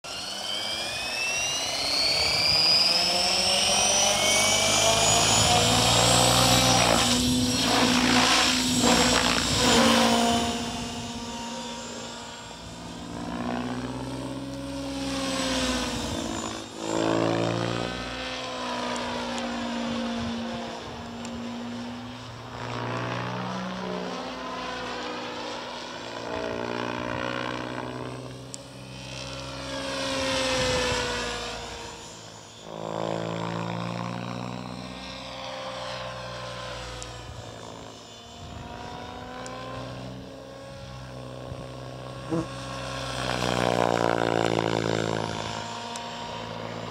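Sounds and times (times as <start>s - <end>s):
rc helicopter motor whine: 0.0s - 46.9s.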